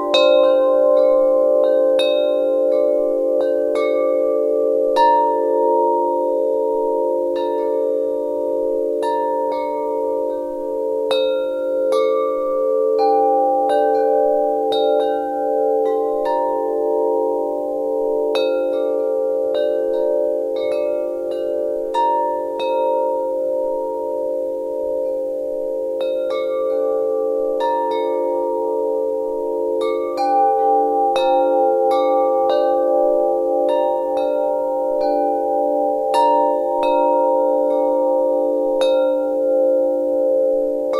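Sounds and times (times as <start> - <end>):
wind chimes ringing: 0.0 - 40.9.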